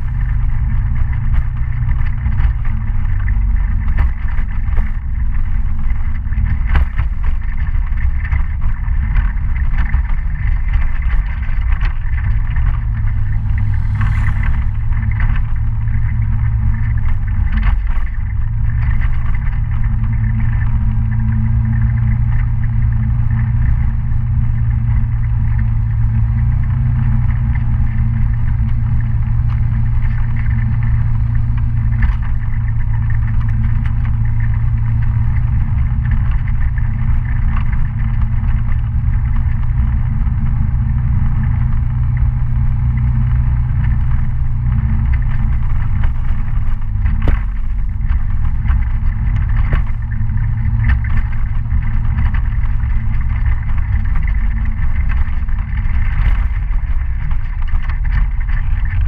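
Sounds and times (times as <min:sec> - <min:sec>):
knocks and clatter from rough road: 0:00.0 - 0:59.0
scooter engine running: 0:00.0 - 0:59.0.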